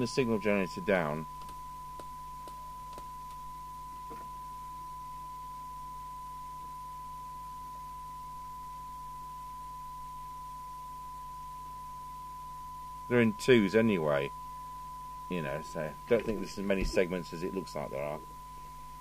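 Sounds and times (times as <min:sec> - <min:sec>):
steady test tone: 0:00.0 - 0:19.0.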